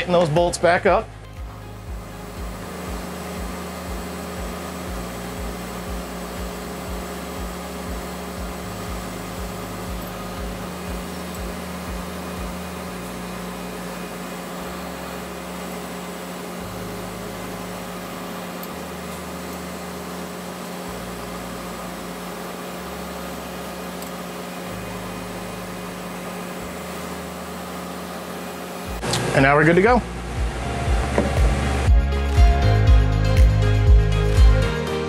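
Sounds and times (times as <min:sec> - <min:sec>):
milling machine humming: 0:00.0 - 0:35.0.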